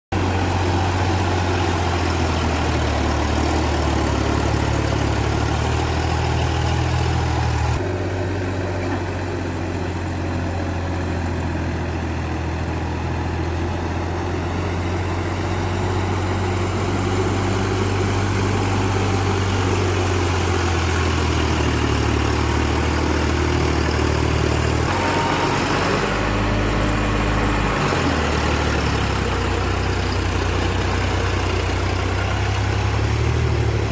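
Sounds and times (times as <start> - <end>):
tractor engine droning: 0.1 - 33.9.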